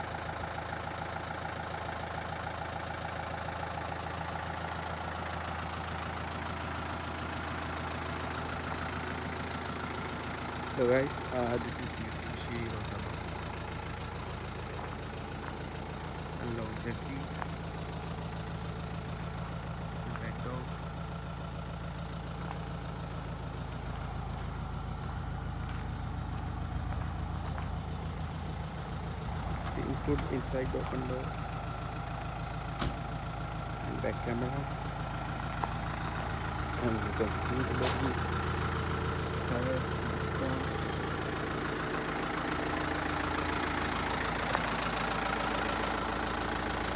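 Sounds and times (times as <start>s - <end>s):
diesel bus engine idling: 0.0s - 46.9s.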